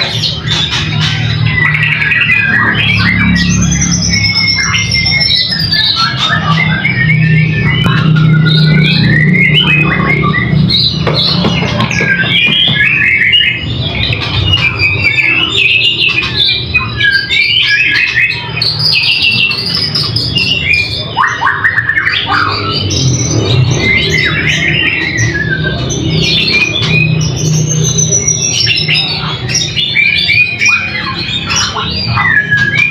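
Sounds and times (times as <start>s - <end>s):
songbird singing: 0.0s - 32.9s.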